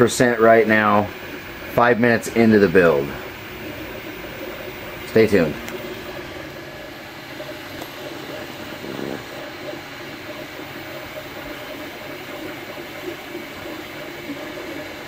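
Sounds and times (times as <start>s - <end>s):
three d printer motors whirring: 0.0s - 15.0s.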